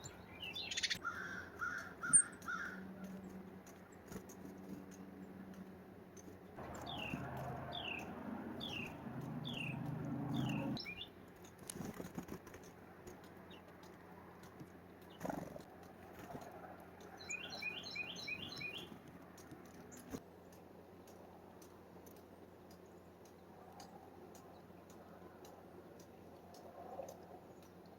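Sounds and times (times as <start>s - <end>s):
faint ticks: 0.8s - 27.9s.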